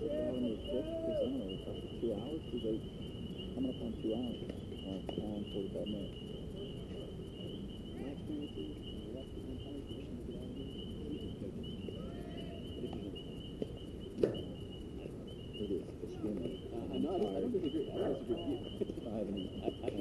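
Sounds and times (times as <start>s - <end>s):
insects trilling: 0.0s - 20.0s
murmur of distant voices: 0.0s - 20.0s.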